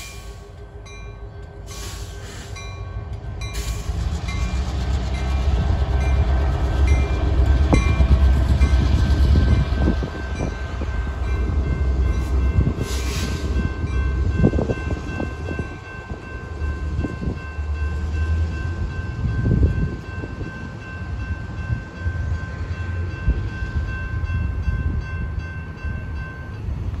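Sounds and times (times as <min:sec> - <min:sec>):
crossing warning bell ringing: 0:00.0 - 0:27.0
train rumble: 0:00.0 - 0:27.0.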